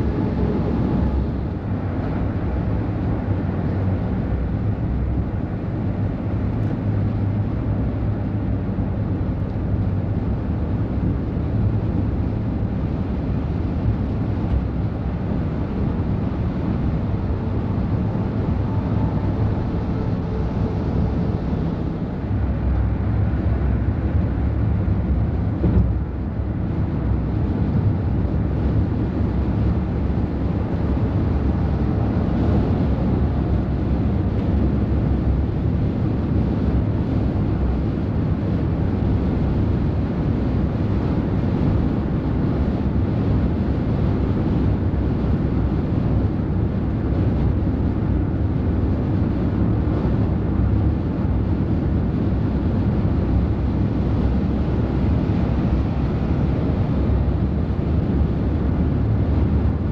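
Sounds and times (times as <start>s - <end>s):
diesel truck engine drone: 0.0s - 59.9s
road rumble: 0.0s - 59.9s.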